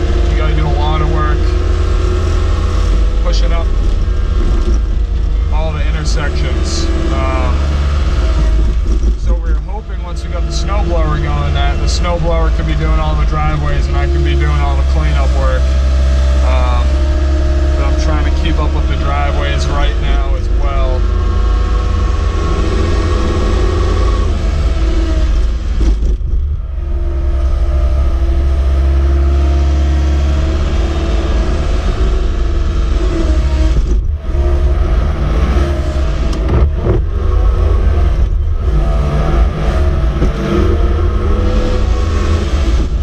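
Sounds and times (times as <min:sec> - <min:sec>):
diesel engine running hard: 0:00.0 - 0:43.0.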